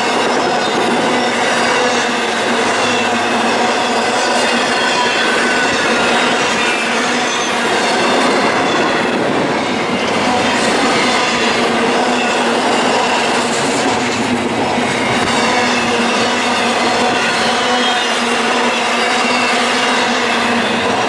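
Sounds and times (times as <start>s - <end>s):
high-pitched wheel squeal: 0.0s - 21.0s
train wheels on rails: 0.0s - 21.0s.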